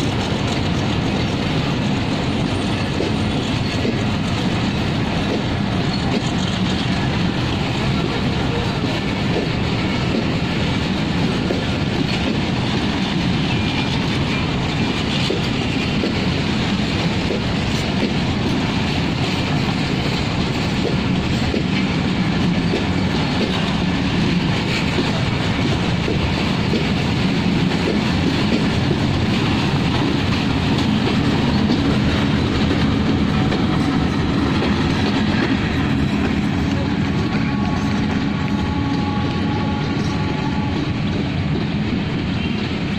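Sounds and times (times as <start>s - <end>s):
diesel locomotive engine: 0.0s - 42.9s
train wheels clattering on rails: 0.0s - 42.9s.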